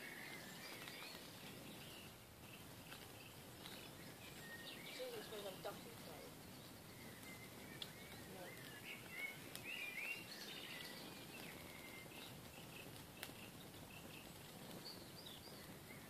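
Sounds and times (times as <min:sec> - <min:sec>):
birds chirping and singing: 0:00.0 - 0:16.0
faint outdoor noise: 0:00.0 - 0:16.0.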